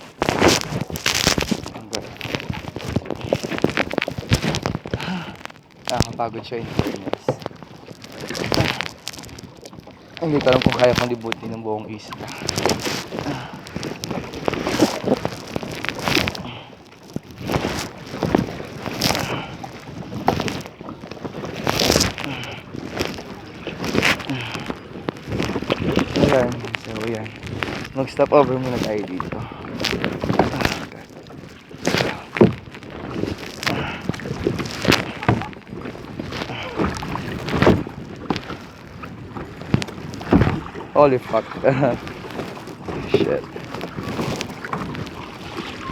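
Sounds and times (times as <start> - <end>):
kayak paddle splashing: 0.0 - 45.9.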